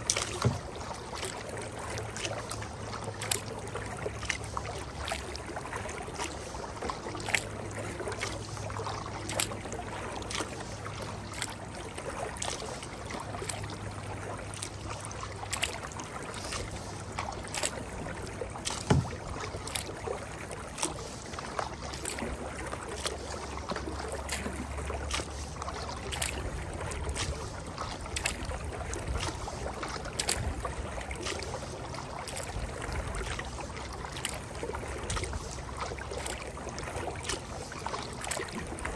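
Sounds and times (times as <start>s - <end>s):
paddle splashing in water: 0.0s - 38.9s
water wash and wind: 0.0s - 38.9s.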